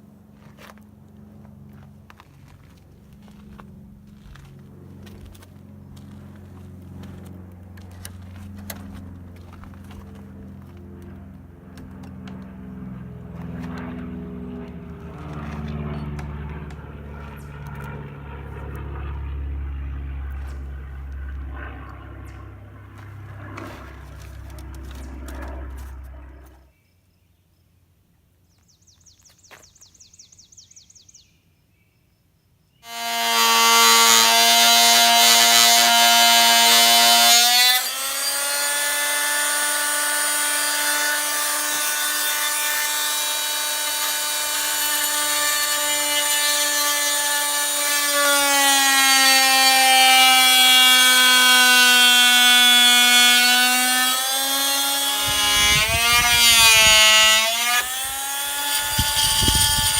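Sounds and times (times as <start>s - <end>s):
power saw cutting wood: 2.1s - 19.2s, 20.2s - 26.7s, 32.8s - 59.9s.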